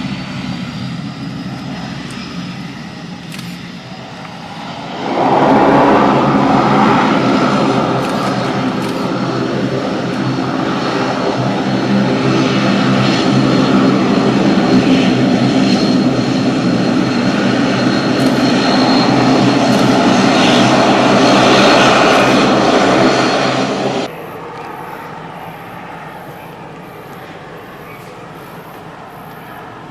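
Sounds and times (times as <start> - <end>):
airliner engines droning: 0.0 - 29.9
thin high engine whine: 0.0 - 29.9.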